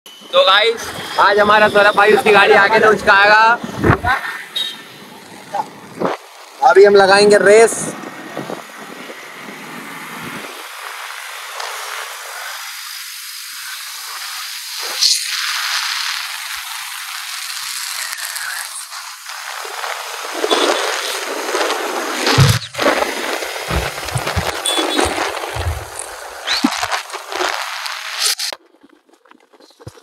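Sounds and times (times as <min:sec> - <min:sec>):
wind and road noise: 0:00.1 - 0:30.0.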